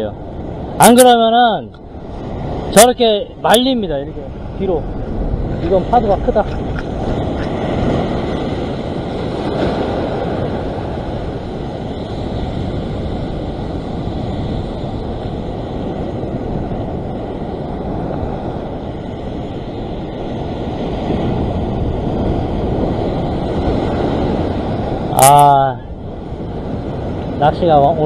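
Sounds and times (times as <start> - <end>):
ocean surf breaking over rocks: 0.0 - 28.0
wind buffeting the microphone: 0.0 - 28.0.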